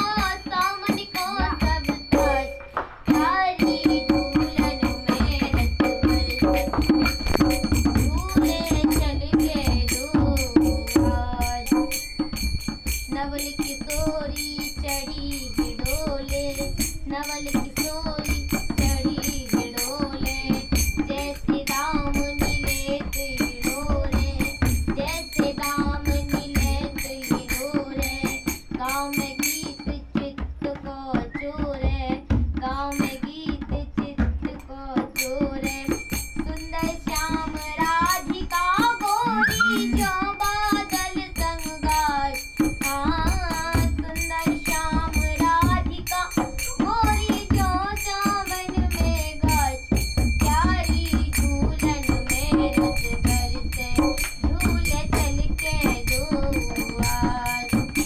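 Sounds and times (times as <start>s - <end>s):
girl singing: 0.0s - 58.0s
hand drum rhythm: 0.0s - 58.0s.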